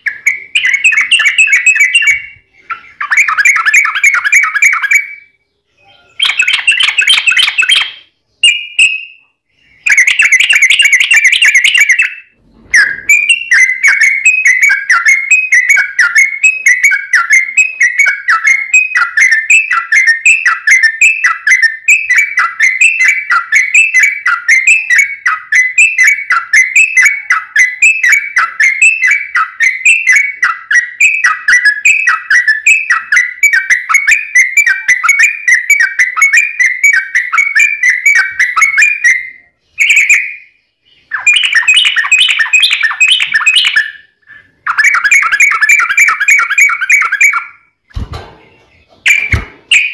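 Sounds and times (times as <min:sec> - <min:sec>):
bulbul song: 0:00.0 - 0:49.9.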